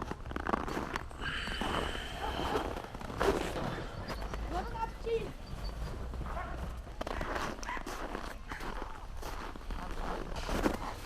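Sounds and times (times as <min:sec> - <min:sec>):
footsteps: 0:00.0 - 0:11.0.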